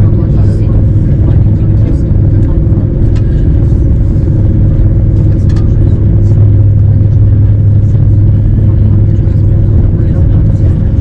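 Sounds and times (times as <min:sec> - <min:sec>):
vehicle low rumble: 0:00.0 - 0:11.0.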